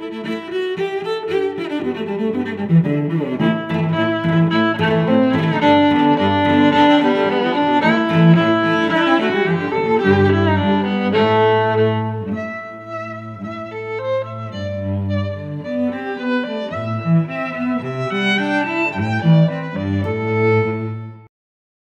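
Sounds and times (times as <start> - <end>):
bowed strings melody: 0.0 - 21.3.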